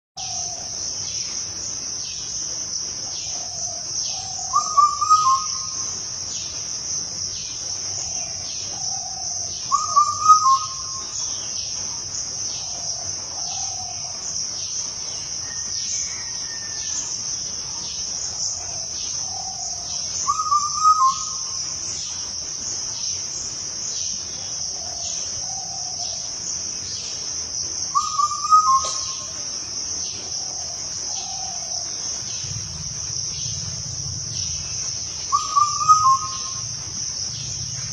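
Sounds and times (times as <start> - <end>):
insects chirping: 0.2 - 37.9.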